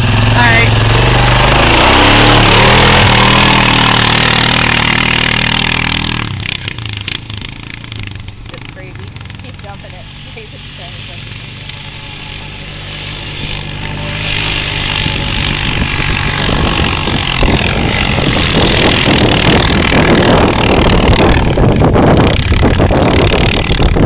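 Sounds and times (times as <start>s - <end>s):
atv engines running roughly: 0.0s - 24.0s.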